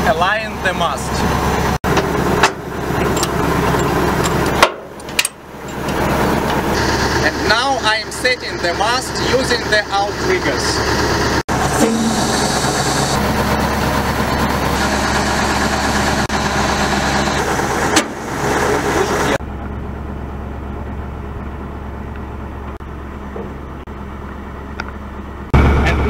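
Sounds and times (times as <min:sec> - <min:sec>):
drilling rig engine running: 0:00.0 - 0:26.0.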